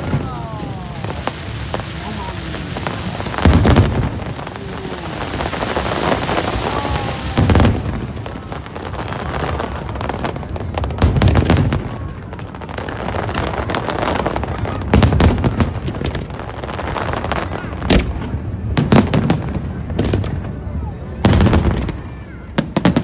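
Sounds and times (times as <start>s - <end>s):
fireworks bursting with sharp bangs: 0.0s - 23.0s
fireworks crackling: 0.0s - 23.0s.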